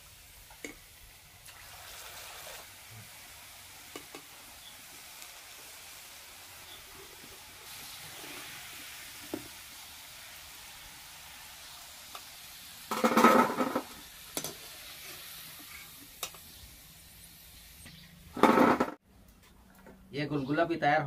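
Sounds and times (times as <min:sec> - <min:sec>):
hot oil sizzling: 0:00.0 - 0:18.9.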